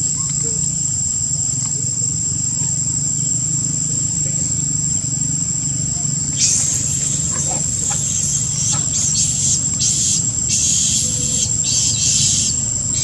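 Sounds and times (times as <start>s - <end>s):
insects buzzing in pulsing bursts: 0.0s - 13.0s
low steady rumble: 0.0s - 13.0s
steady high-pitched whine: 0.0s - 13.0s.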